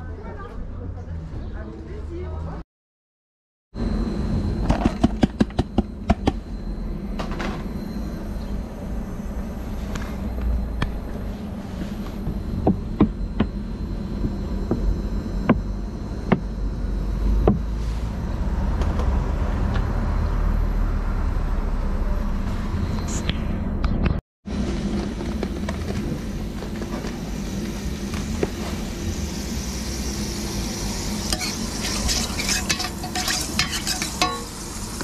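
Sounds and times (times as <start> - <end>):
low outdoor rumble: 3.8 - 35.0.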